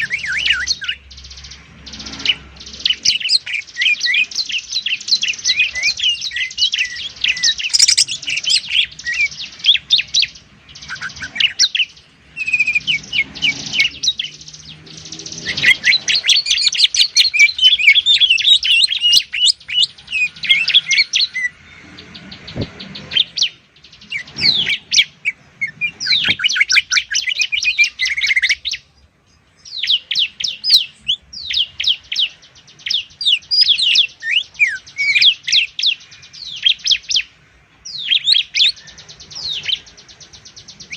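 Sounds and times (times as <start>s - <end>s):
birds chattering song: 0.0s - 40.9s.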